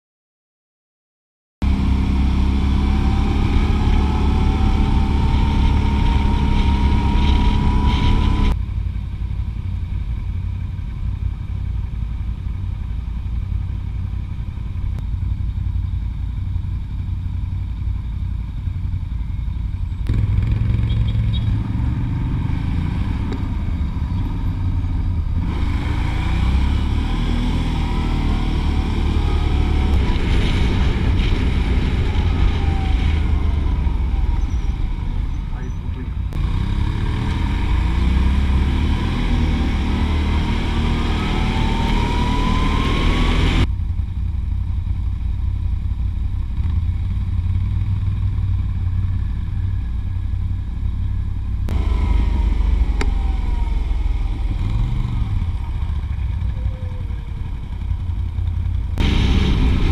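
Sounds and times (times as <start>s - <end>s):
quad bike engine running: 1.6s - 59.9s
rising engine whine: 1.6s - 59.9s.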